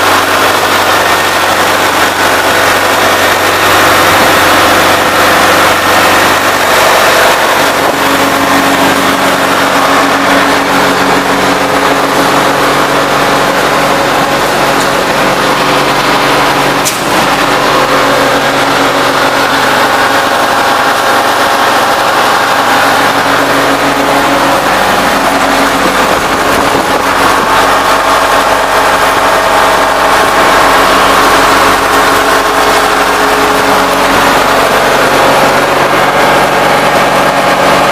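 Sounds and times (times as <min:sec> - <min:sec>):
air compressor engine running: 0:00.0 - 0:37.9.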